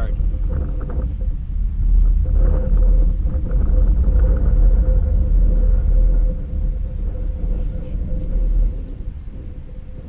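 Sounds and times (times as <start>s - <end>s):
faint steady hum: 0.0s - 10.0s
freight train rumbling: 0.0s - 10.0s.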